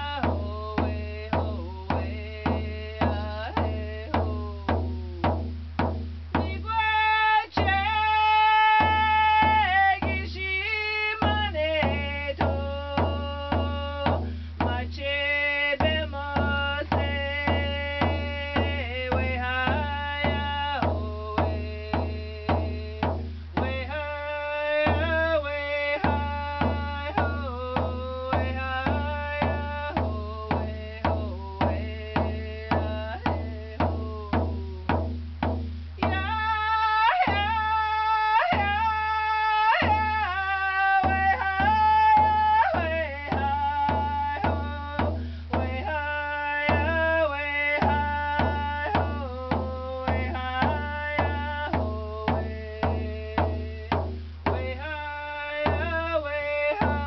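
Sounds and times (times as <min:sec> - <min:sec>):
frame drum beaten with stick: 0:00.0 - 0:57.0.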